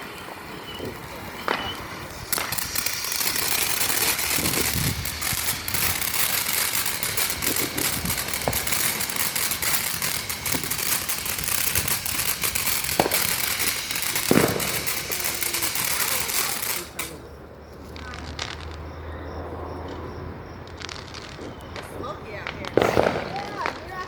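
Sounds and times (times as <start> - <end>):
firework hissing and crackling: 0.0 - 19.2, 20.5 - 24.0
firework pops: 0.7 - 17.2, 17.9 - 19.0, 19.8 - 24.0.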